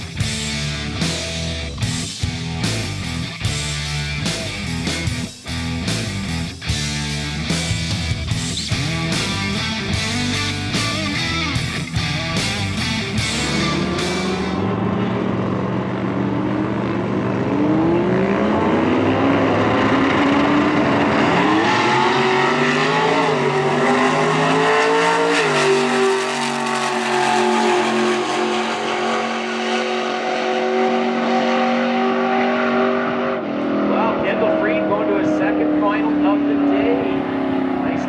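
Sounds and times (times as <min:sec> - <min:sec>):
truck engines at full throttle: 0:00.0 - 0:38.0.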